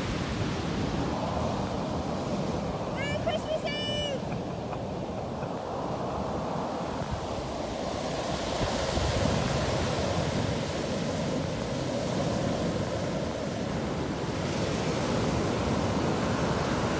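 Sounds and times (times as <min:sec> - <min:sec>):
ocean surf breaking: 0:00.0 - 0:16.9.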